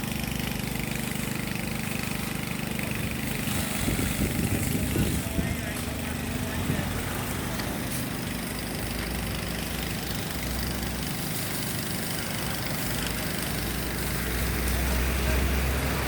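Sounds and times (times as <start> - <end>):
engine rumbling: 0.0 - 16.0
street noise hiss: 0.0 - 16.0.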